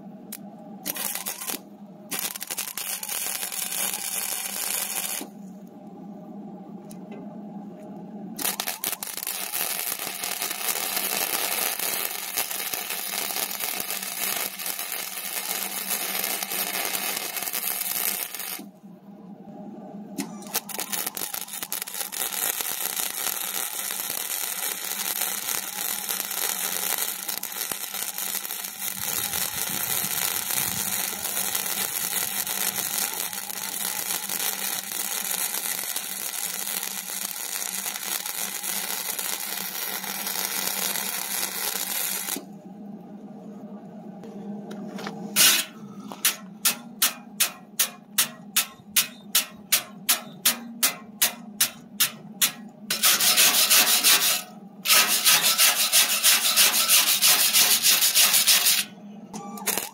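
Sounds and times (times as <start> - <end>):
welding arc crackling and hissing: 0.2 - 5.4, 8.4 - 18.8, 20.2 - 42.5, 45.4 - 58.9, 59.6 - 59.9.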